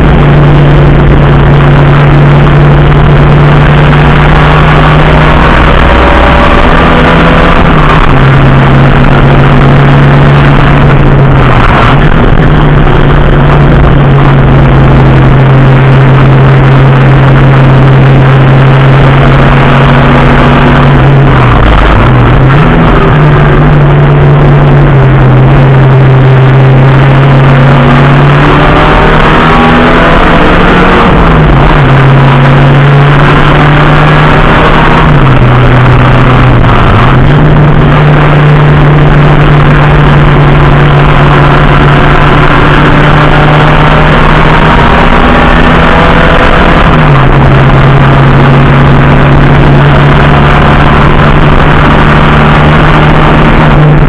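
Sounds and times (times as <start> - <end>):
racing engine running hard: 0.0 - 54.0.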